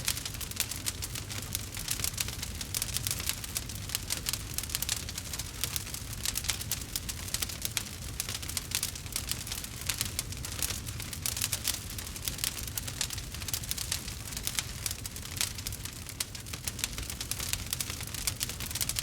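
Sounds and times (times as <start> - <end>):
campfire crackling and popping: 0.0 - 19.0
low rumble of burning: 0.0 - 19.0.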